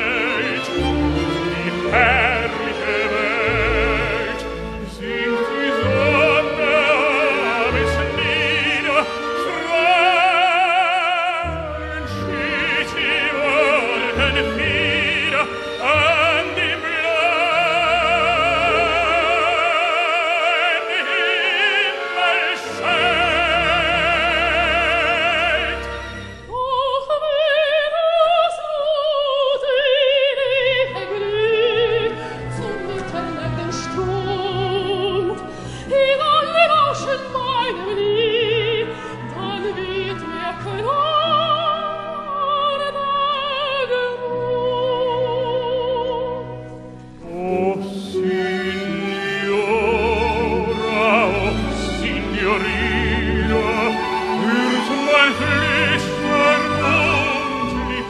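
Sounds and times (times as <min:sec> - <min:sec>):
orchestra playing: 0:00.0 - 0:27.9, 0:29.3 - 0:58.0
soprano singing: 0:00.0 - 0:58.0
tenor singing: 0:00.0 - 0:58.0.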